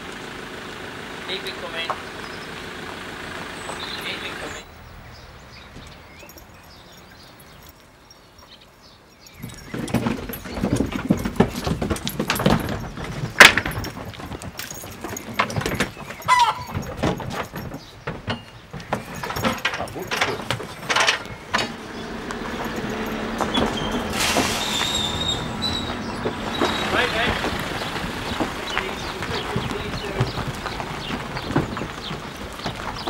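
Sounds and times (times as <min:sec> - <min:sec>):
sheep hooves clattering on trailer: 0:01.2 - 0:04.6, 0:09.2 - 0:33.0.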